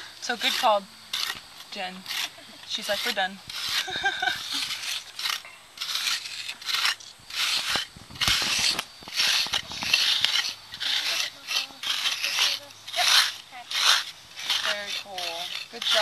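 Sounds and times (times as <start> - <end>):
trowel scraping soil: 0.0 - 16.0.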